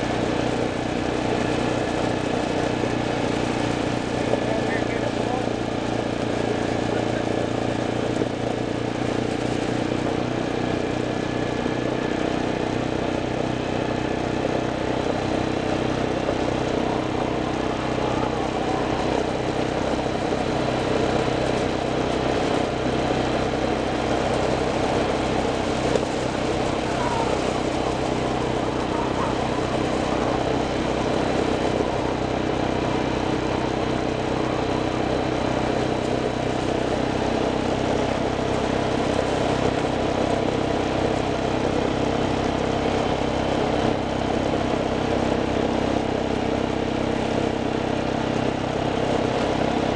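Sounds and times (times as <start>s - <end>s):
rush of noise: 0.0s - 49.9s
vehicle engine running: 0.0s - 49.9s.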